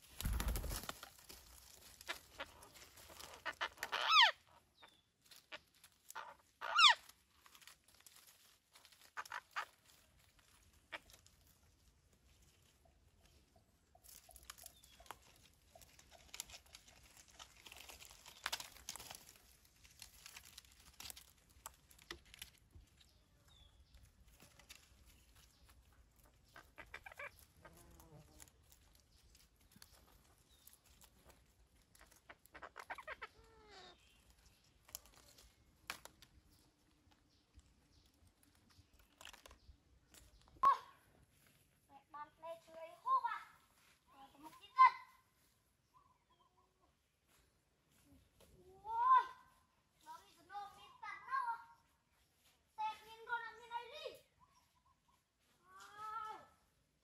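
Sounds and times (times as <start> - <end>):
rustling of leaves and twigs: 0.0 - 46.0, 47.0 - 57.0.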